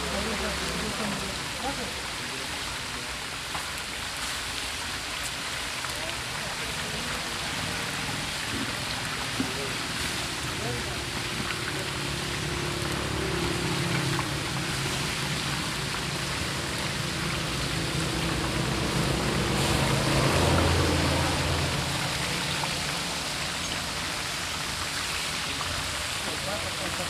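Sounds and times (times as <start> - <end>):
oil sizzling in pan: 3.3 - 27.0.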